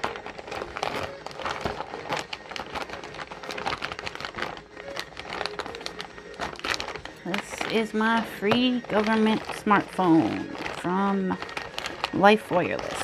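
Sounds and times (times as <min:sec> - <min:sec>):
plastic pack crinkling: 0:00.0 - 0:13.0.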